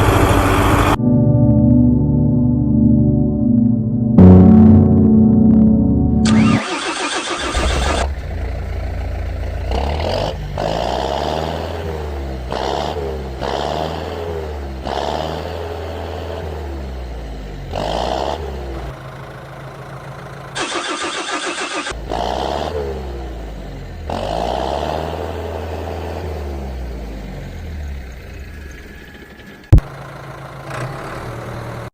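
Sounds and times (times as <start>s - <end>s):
engine revving: 0.0s - 1.0s, 6.2s - 31.9s.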